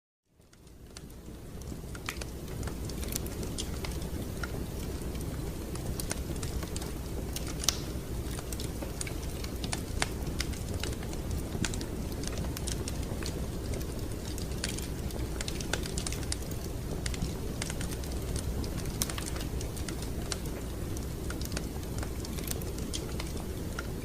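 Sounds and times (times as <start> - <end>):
wood fire crackling: 0.3 - 24.0.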